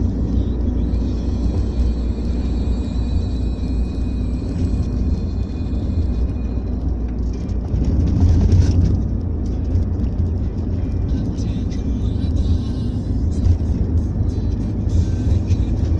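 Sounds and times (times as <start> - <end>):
engine and road rumble: 0.0 - 15.9.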